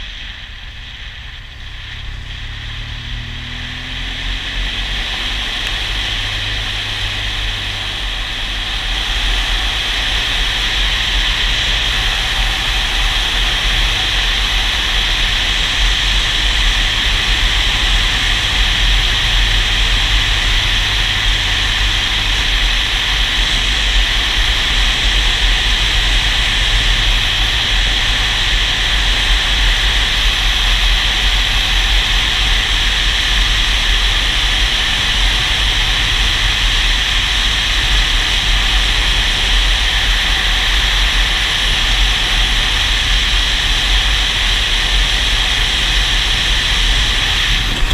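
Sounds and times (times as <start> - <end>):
motorcycle engine drone: 0.0 - 47.9.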